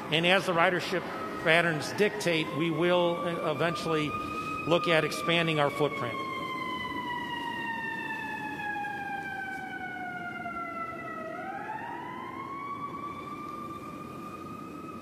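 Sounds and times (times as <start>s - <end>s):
emergency siren wailing: 0.0s - 15.0s
low rumble of city noise: 0.0s - 15.0s.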